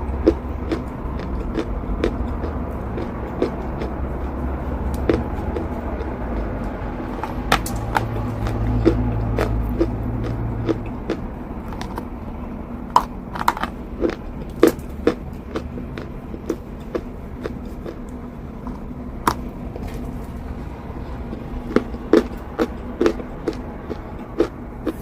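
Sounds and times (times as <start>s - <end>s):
chalk crunching while eaten: 0.0s - 12.1s, 12.9s - 25.0s
steady low hum: 0.0s - 25.0s.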